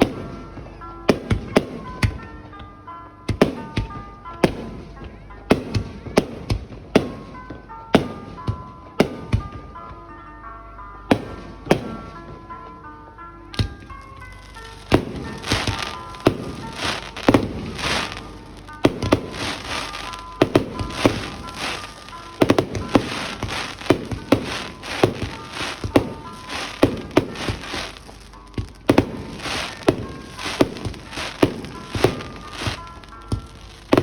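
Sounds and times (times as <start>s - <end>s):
fireworks banging and crackling: 0.0s - 10.3s, 11.1s - 12.9s, 13.5s - 34.0s
music: 0.0s - 34.0s.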